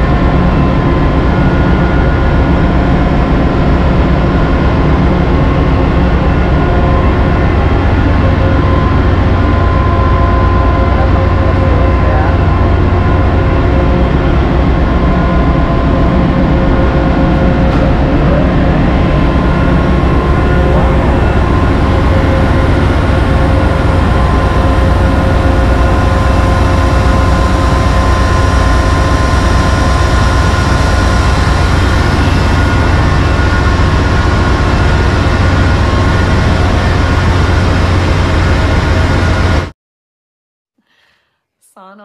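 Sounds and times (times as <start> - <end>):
deep engine room hum: 0.0 - 39.7
steady whining tones: 0.0 - 39.7.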